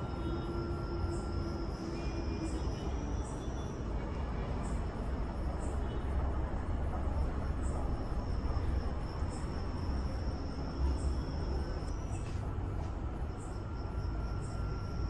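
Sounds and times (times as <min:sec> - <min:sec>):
high insect trill: 0:00.0 - 0:03.9, 0:04.6 - 0:15.0.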